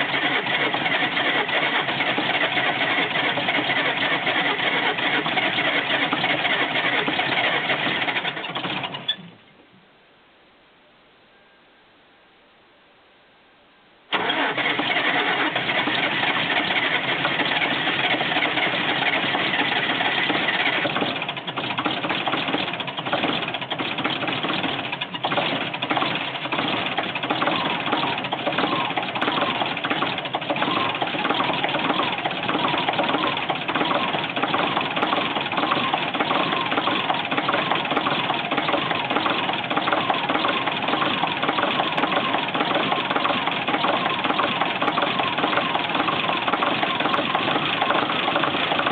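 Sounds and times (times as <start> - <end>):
diesel engine idling: 0.0 - 9.1, 14.1 - 48.9.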